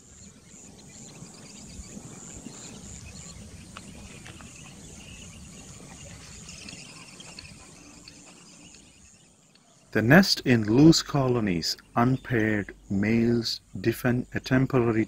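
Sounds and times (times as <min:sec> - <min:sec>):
faint high chirps: 0:00.0 - 0:15.0
insects trilling: 0:00.0 - 0:15.0
low rumbling background noise: 0:00.0 - 0:15.0.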